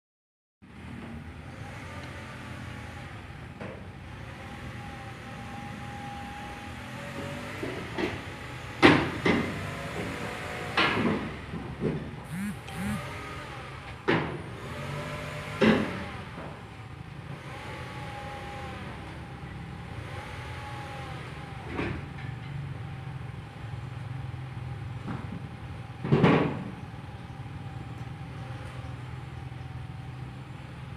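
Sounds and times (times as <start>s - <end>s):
tow truck engine running: 0.6s - 30.9s.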